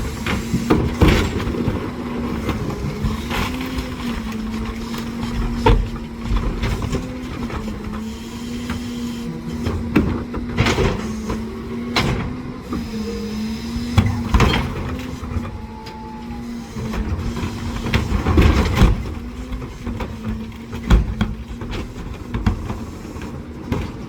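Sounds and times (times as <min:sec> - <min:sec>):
garbage truck engine and hydraulics hum: 0:00.0 - 0:24.0.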